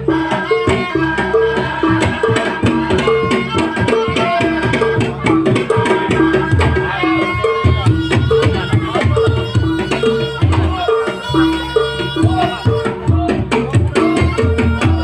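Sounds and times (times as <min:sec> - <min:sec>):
fast repeating pitched melody: 0:00.0 - 0:15.0
hand drums: 0:00.0 - 0:15.0.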